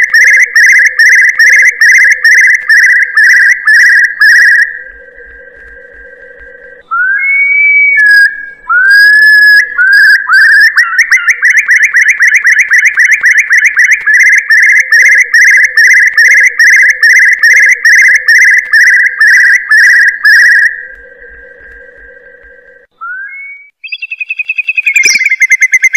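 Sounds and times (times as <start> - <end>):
curlew whistles: 0.0 - 22.2, 23.0 - 25.9
repeated whistled notes: 0.0 - 25.9.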